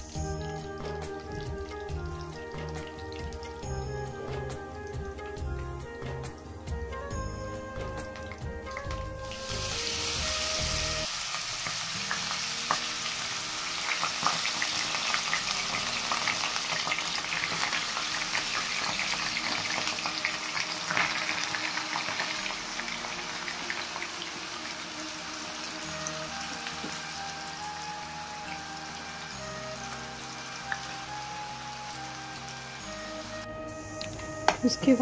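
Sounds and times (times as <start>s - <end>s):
apple sizzling in a pan: 0.0s - 35.0s.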